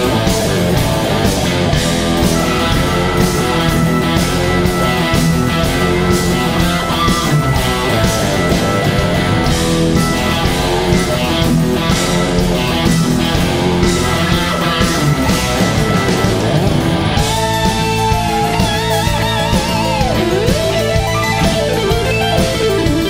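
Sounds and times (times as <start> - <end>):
bass guitar: 0.0 - 23.0
drums: 0.0 - 23.0
keyboards: 0.0 - 23.0.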